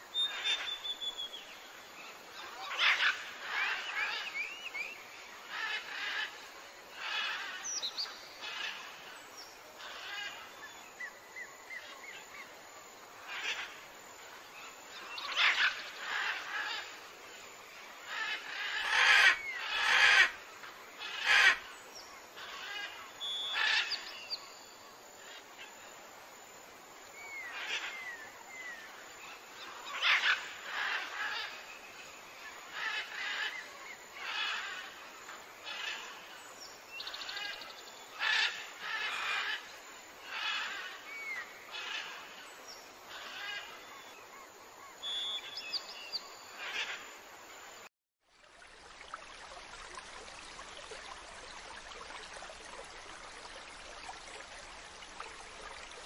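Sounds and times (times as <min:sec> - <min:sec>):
forest birds chirping: 0:00.0 - 0:47.9.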